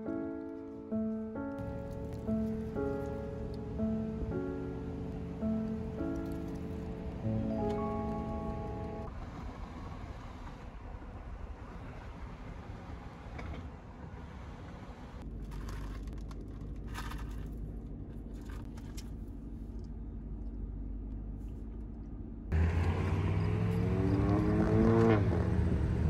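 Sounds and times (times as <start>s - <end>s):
car driving rumble: 1.0s - 26.0s
stationary car hum: 1.0s - 26.0s.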